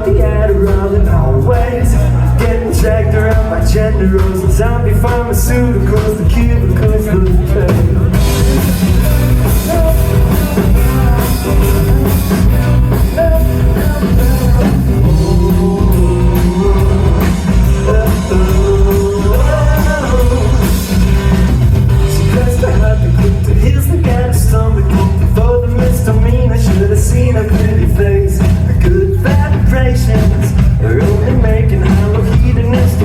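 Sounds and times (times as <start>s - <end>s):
person singing: 0.0s - 33.0s
rock band playing loudly: 0.0s - 33.0s.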